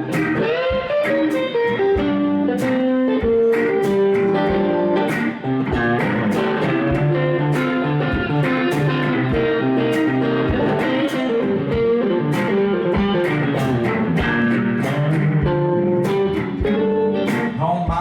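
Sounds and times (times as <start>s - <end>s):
bass guitar: 0.0s - 18.0s
drums keeping a steady beat: 0.0s - 18.0s
guitar lines: 0.0s - 18.0s.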